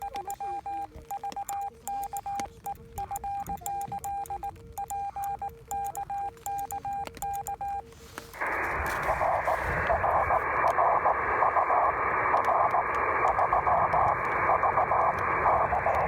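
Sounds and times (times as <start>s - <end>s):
morse code tones: 0.0s - 16.0s.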